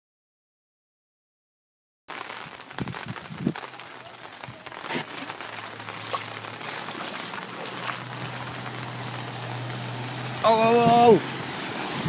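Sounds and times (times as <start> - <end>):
rain falling: 2.1 - 12.0
raindrops tapping hard surfaces: 2.1 - 12.0.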